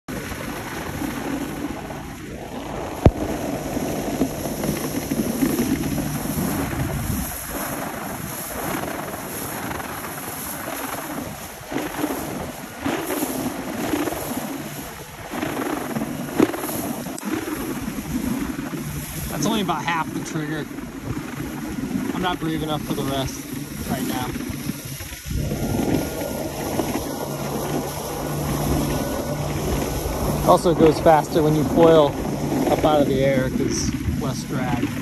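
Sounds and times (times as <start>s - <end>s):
water rushing and splashing: 0.1s - 35.0s
wind buffeting microphone: 0.1s - 35.0s.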